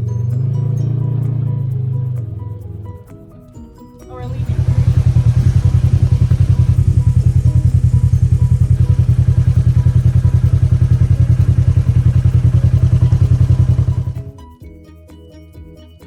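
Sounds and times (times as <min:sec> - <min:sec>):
engine rumbling: 0:00.0 - 0:14.4
soft plucked background music: 0:00.0 - 0:16.0.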